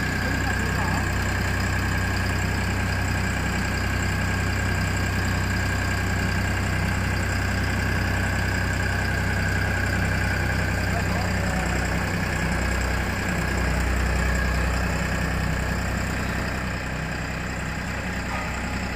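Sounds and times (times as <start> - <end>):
road roller engine idling: 0.0 - 18.9.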